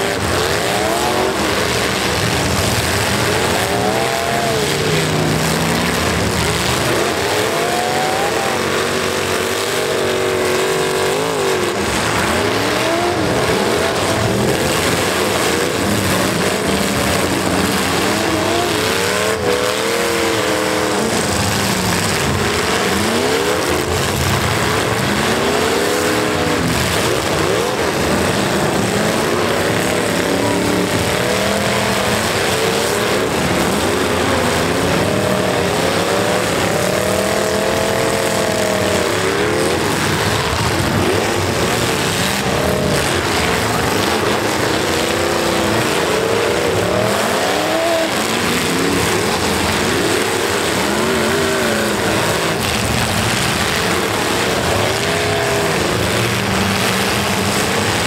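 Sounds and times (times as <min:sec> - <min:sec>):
din of running engines: 0:00.0 - 0:58.0
truck engines revving: 0:00.0 - 0:58.0.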